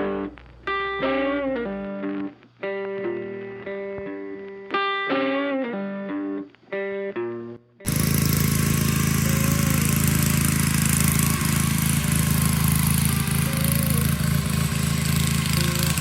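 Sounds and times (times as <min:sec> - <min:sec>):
electric guitar music: 0:00.0 - 0:16.0.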